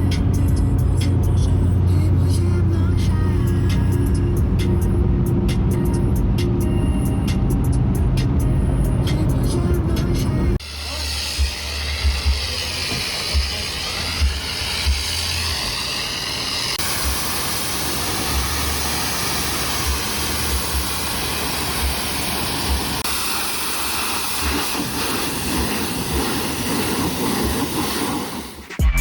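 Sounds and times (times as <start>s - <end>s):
road and wind rush: 0.0s - 10.6s, 12.6s - 28.6s.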